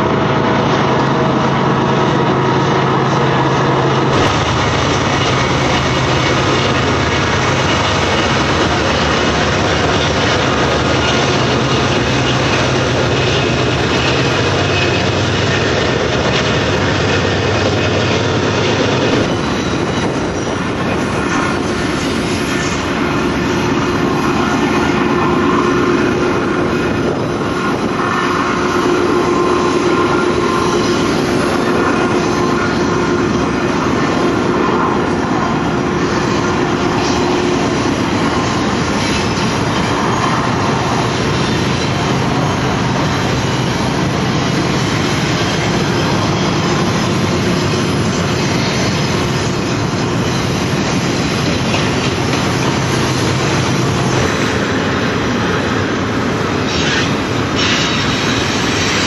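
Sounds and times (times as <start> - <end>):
diesel locomotive drone: 0.0 - 59.0
train wheels rolling on rails: 0.0 - 59.0.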